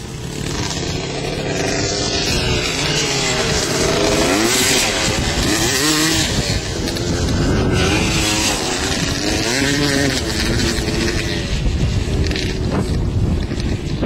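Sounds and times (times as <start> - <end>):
dirt bike engines revving: 0.0 - 14.0
steady rushing noise: 0.0 - 14.0.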